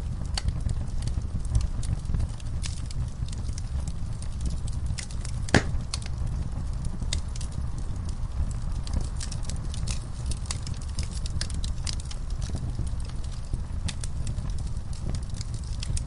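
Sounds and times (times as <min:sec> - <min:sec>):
fire crackling and popping: 0:00.0 - 0:16.0
wood fire burning: 0:00.0 - 0:16.0.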